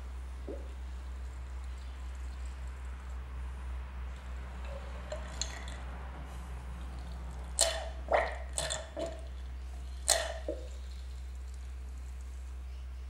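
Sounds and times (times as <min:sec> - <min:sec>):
damper rod stroking through oil: 0:00.0 - 0:12.6.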